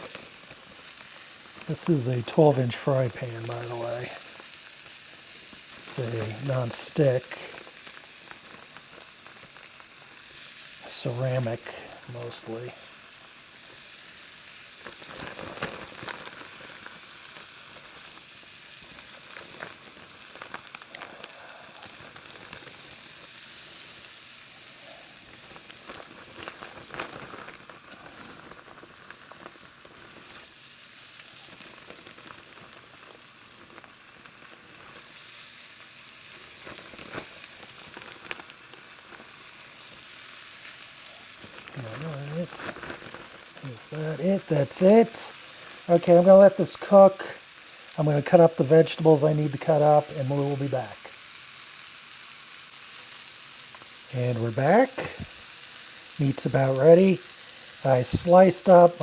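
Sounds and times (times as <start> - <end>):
meat sizzling in a frying pan: 0.0 - 59.0.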